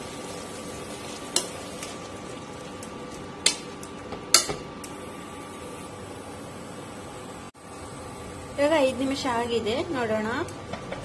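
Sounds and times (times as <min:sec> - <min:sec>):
vegetables sizzling: 0:00.0 - 0:10.5.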